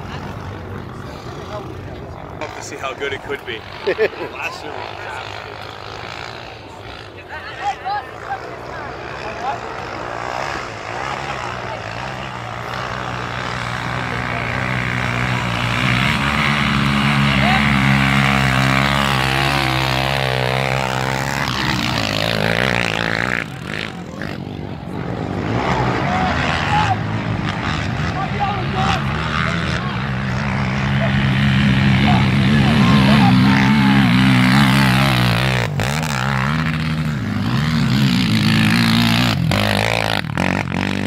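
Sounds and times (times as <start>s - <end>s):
quad engines revving hard: 0.0s - 41.0s.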